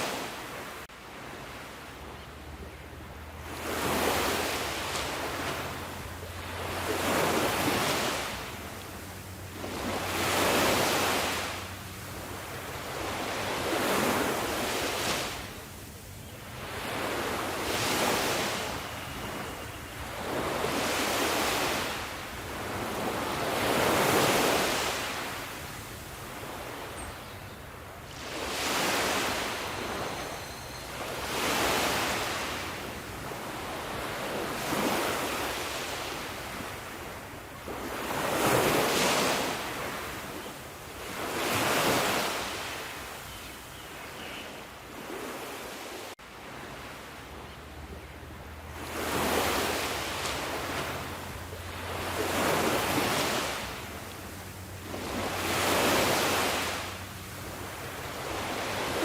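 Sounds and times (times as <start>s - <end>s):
ocean waves breaking: 0.0s - 43.2s, 43.9s - 59.0s.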